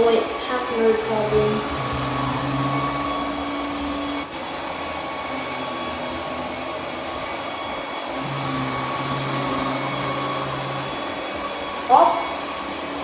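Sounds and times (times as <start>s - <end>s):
robot vacuum fan whine: 0.0s - 13.0s.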